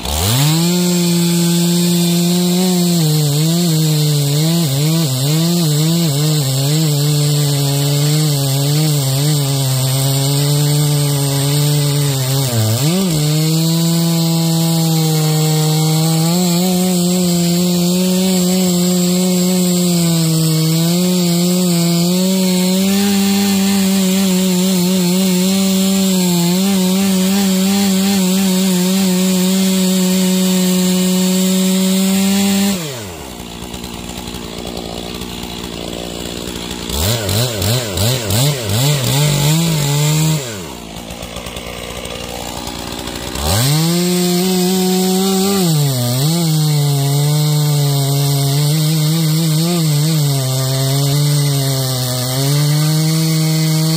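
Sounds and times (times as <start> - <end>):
chainsaw cutting logs: 0.0 - 53.9.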